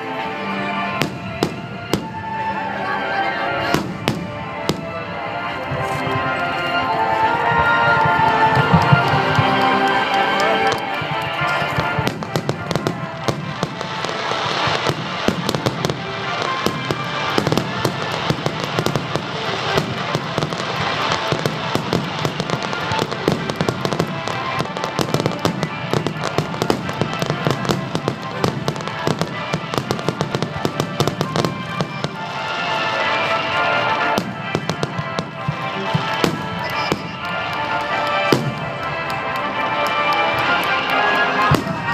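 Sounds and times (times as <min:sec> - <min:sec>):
fireworks crackling and popping: 0:00.0 - 0:02.6, 0:03.6 - 0:41.9
music playing: 0:00.0 - 0:41.9.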